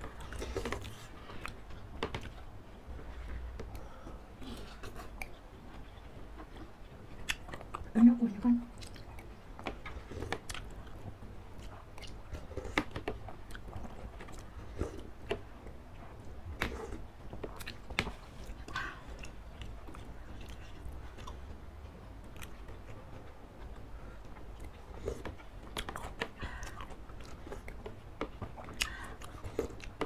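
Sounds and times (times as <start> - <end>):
people chewing: 0.0 - 30.0.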